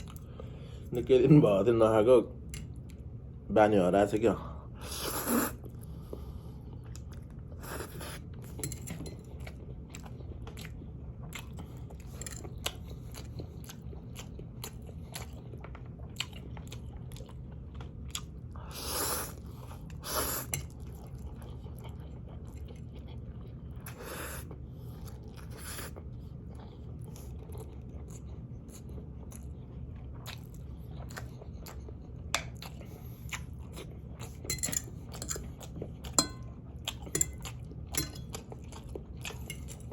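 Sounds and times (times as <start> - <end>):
steady low hum: 0.0 - 39.9
chewing and biting food: 5.6 - 18.6, 19.3 - 39.9.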